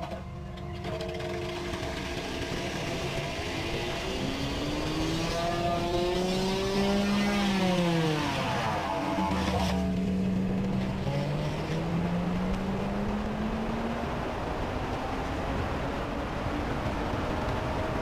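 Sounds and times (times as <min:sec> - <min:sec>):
engine running under load: 0:00.0 - 0:14.6.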